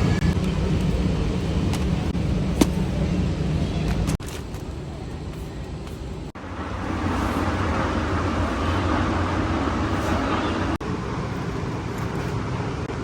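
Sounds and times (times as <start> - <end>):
vehicle road noise rumble: 0.0 - 13.0.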